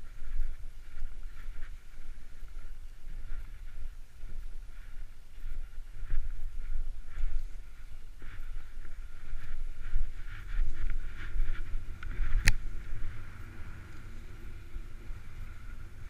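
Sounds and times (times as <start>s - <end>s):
skis gliding on snow: 0.0s - 16.0s
wind buffeting microphone: 0.0s - 16.0s.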